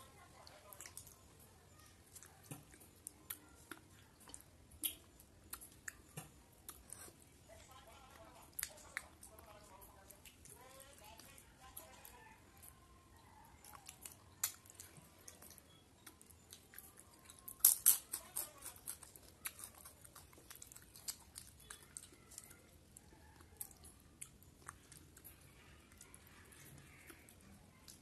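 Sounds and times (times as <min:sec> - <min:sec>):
wet chewing and lip smacks: 0:00.3 - 0:01.4, 0:02.0 - 0:28.0.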